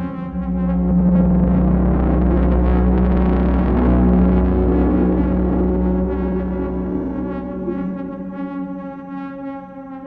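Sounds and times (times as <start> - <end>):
synthesizer low drone: 0.0 - 10.0.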